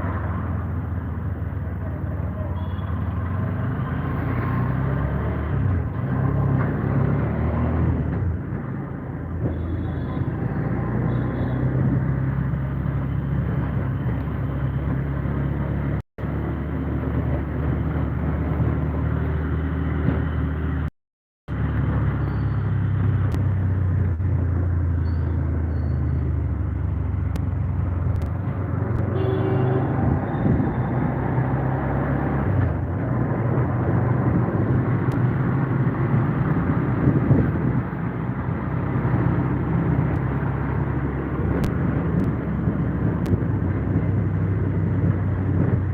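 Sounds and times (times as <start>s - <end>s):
road noise: 0.0s - 45.9s.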